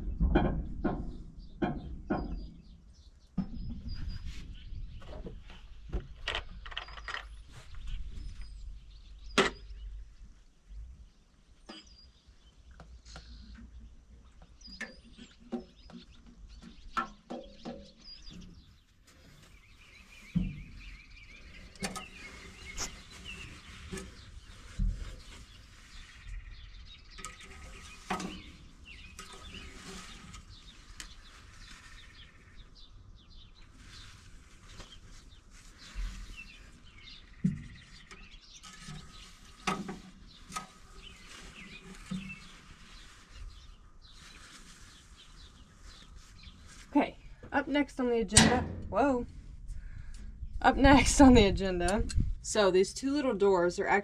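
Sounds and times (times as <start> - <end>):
birds chirping: 0.9 - 54.0.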